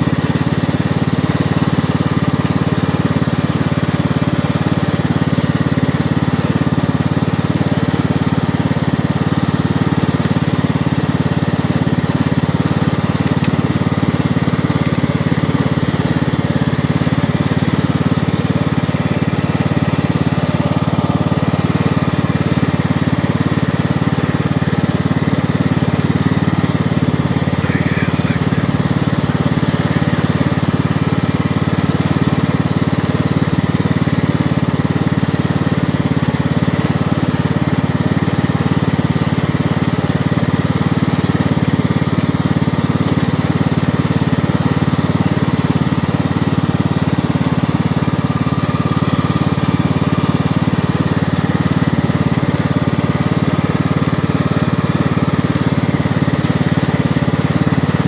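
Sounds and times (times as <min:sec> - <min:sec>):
lawn tractor engine droning: 0:00.0 - 0:58.0.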